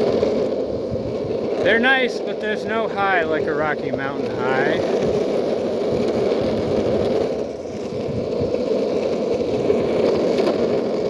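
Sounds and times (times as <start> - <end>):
skateboard wheels on asphalt: 0.0 - 11.0.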